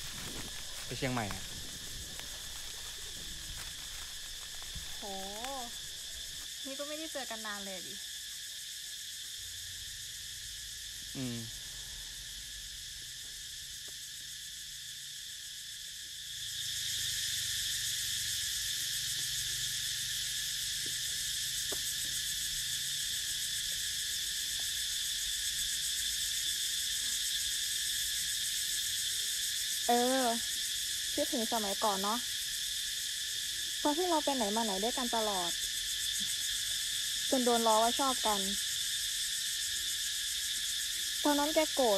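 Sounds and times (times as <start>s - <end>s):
buzzing chorus of insects: 0.0s - 41.9s.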